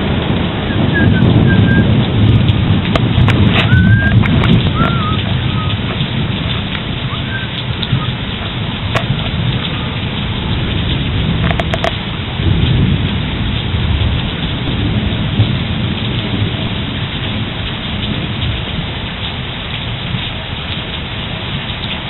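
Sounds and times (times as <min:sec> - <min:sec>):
heavy rain pouring: 0:00.0 - 0:22.0
low thunder rumble: 0:00.0 - 0:22.0.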